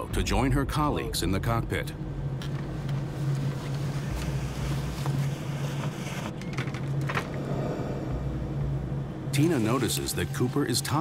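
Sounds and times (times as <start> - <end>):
jet engine drone in cabin: 0.0 - 11.0.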